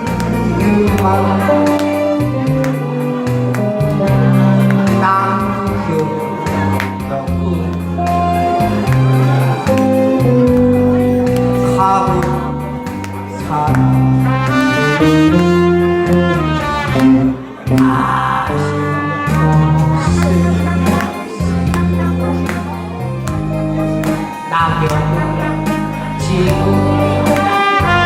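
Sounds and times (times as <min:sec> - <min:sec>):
melodic lead line: 0:00.0 - 0:28.0
steady bass: 0:00.0 - 0:28.0.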